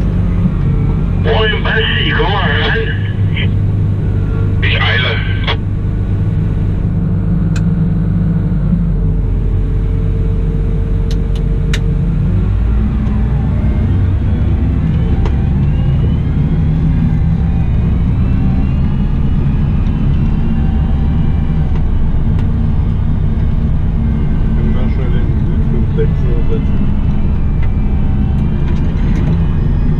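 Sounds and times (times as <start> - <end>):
faint rising whines: 0.0 - 29.9
wheel loader diesel engine: 0.0 - 29.9.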